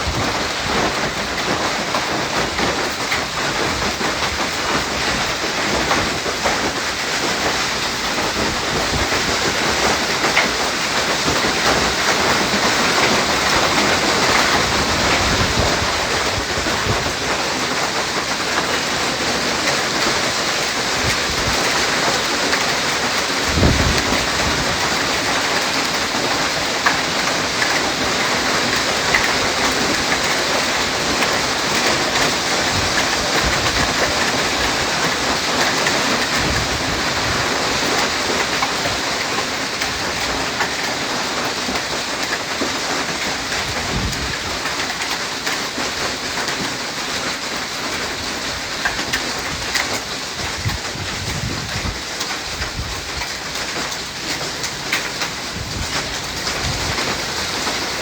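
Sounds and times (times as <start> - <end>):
hail and heavy rain pelting: 0.0 - 58.0.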